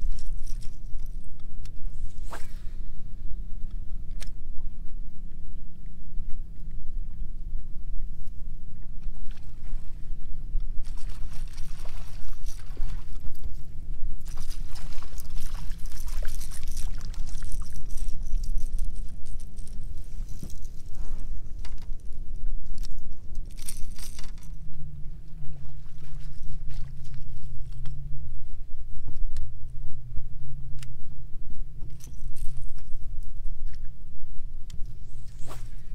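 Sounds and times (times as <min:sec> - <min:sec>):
steady low hum: 0:00.0 - 0:35.9
steady low rumble: 0:00.0 - 0:35.9.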